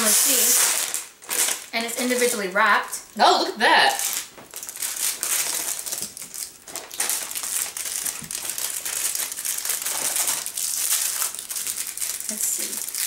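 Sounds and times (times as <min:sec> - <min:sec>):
wrapper crinkling: 0:00.0 - 0:03.0, 0:03.9 - 0:13.0.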